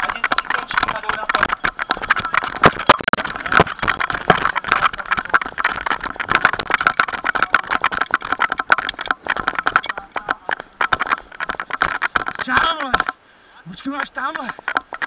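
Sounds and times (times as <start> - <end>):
camera rattling against body: 0.0 - 13.2, 13.8 - 15.0.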